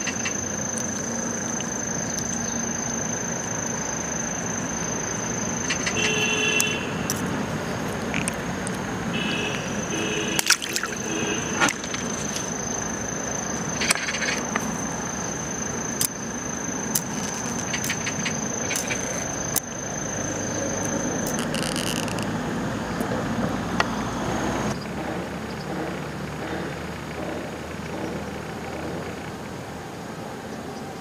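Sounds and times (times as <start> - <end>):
high insect trill: 0.0 - 31.0.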